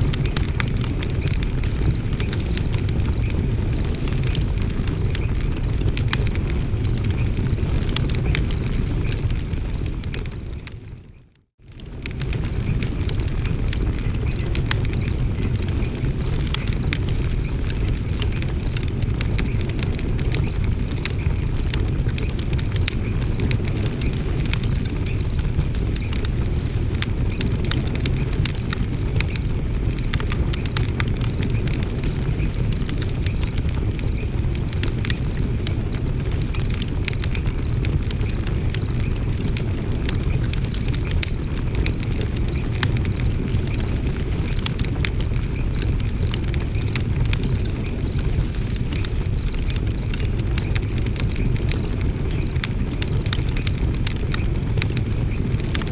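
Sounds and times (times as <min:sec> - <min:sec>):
low fire rumble: 0:00.0 - 0:55.9
wood fire crackling and popping: 0:00.0 - 0:55.9.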